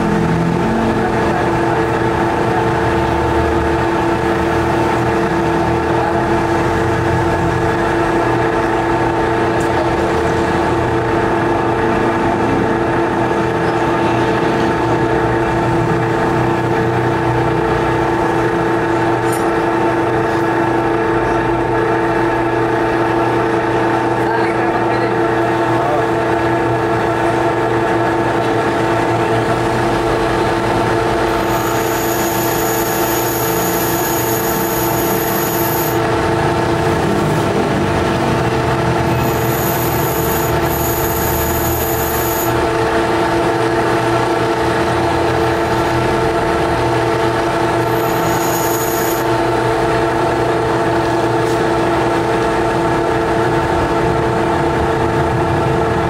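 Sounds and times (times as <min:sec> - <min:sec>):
lathe machine drone: 0:00.0 - 0:56.0.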